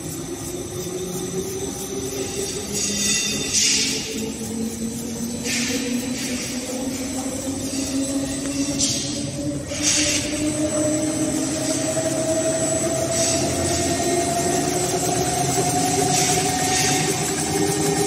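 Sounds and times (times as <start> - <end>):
hiss: 0.0 - 18.0
machine mechanical whir: 0.0 - 18.0.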